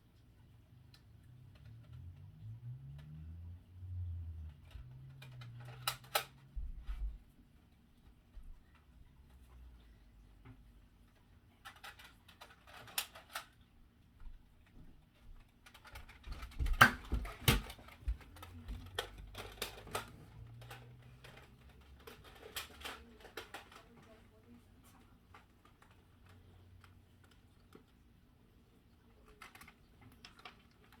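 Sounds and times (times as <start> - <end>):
light clicks and taps: 4.4 - 28.2, 28.9 - 31.0.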